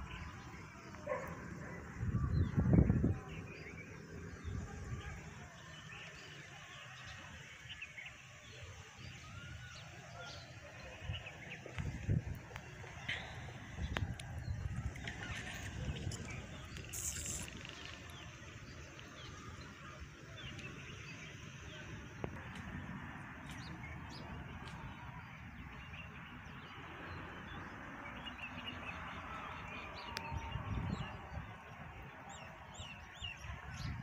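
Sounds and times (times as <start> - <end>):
birds chirping: 0.0 - 34.0
outdoor background noise: 0.0 - 34.0.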